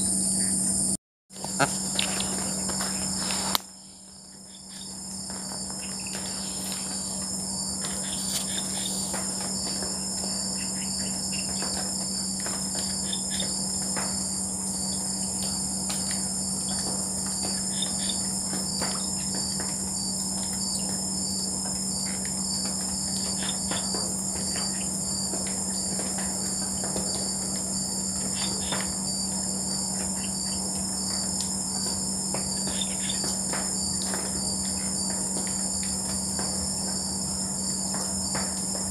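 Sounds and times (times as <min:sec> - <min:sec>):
frogs calling: 0:00.0 - 0:38.5
crickets trilling: 0:00.0 - 0:38.9
low steady drone: 0:00.0 - 0:38.9
pulsing insect chirp: 0:00.0 - 0:38.9.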